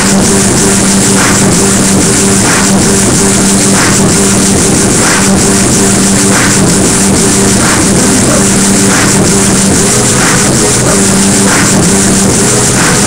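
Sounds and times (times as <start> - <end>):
loud dance music with hard bass: 0.0 - 13.0.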